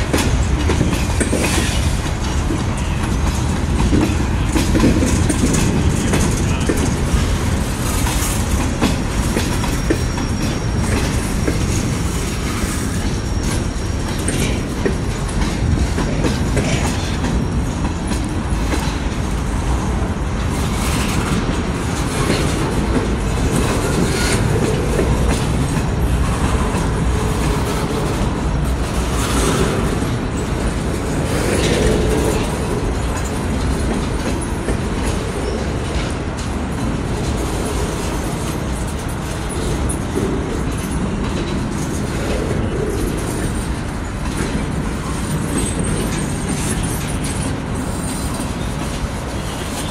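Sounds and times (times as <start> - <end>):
steel wheels rumbling on rail: 0.0 - 49.9
wheels clacking over rail joints: 0.0 - 49.9.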